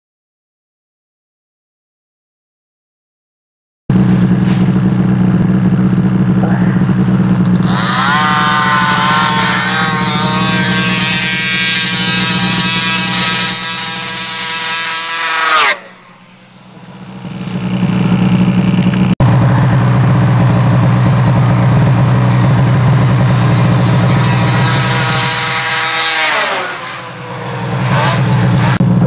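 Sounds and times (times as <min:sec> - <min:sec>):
snowmobile engines revving: 0:03.9 - 0:29.0.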